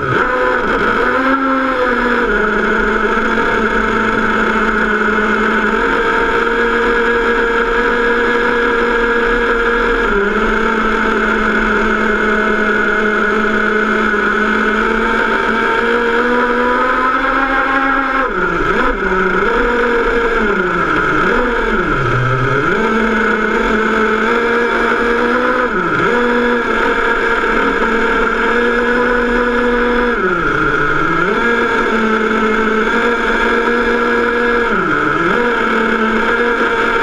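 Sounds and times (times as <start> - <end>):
rc car motor running: 0.0 - 37.0.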